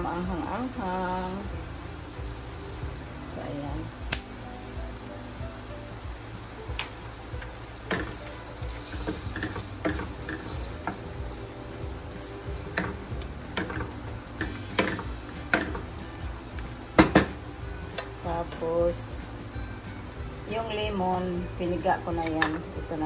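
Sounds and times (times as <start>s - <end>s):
shrimp sizzling in butter: 0.0s - 23.0s.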